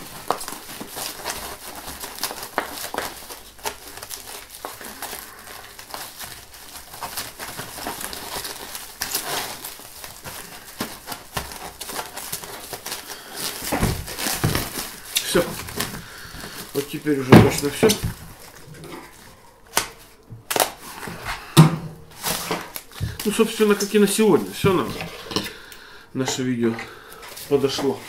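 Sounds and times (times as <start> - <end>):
plastic stretch wrap crinkling: 0.0 - 28.0.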